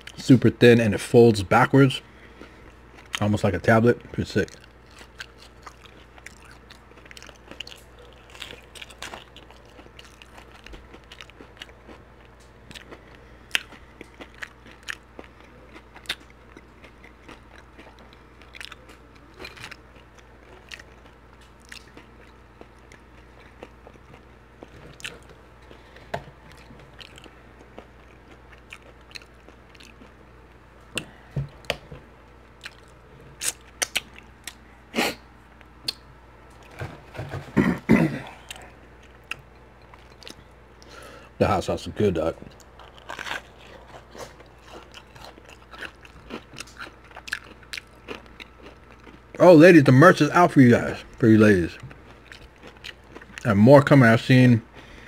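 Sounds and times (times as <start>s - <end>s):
close chewing with crisp crunches: 1.8s - 36.8s, 38.4s - 41.3s, 42.0s - 55.0s.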